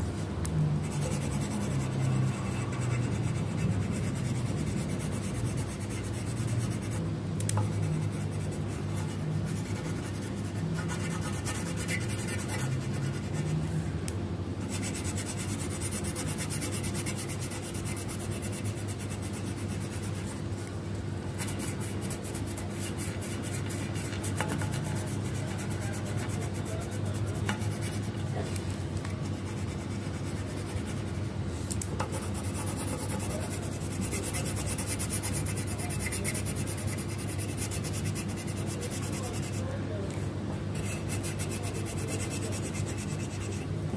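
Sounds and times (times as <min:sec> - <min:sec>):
pencil scratching on paper: 0:00.8 - 0:07.0, 0:07.6 - 0:13.6, 0:14.6 - 0:20.5, 0:21.4 - 0:28.5, 0:29.2 - 0:31.2, 0:32.0 - 0:39.8, 0:40.8 - 0:43.7.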